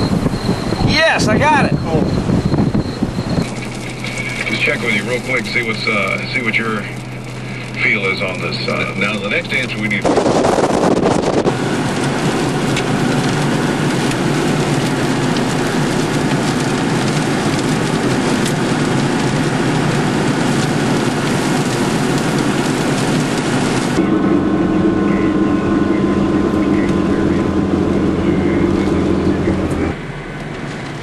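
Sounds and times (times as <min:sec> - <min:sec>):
car driving hum: 0:00.0 - 0:31.0
wind and driving rain: 0:00.0 - 0:31.0.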